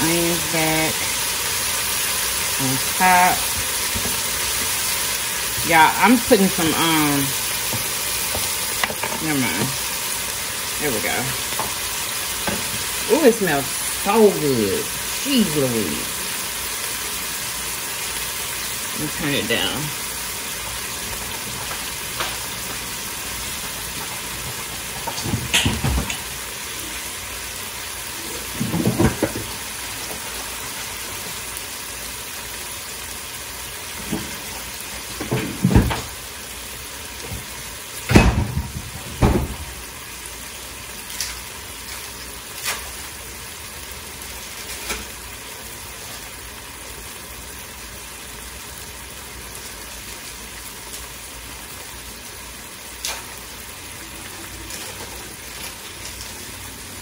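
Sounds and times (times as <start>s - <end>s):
meat sizzling in a skillet: 0.0s - 57.0s.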